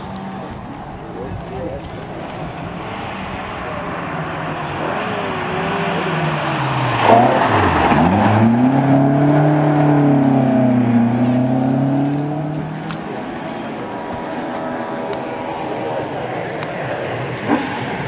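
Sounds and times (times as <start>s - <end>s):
rally car engine passing: 2.1s - 18.0s.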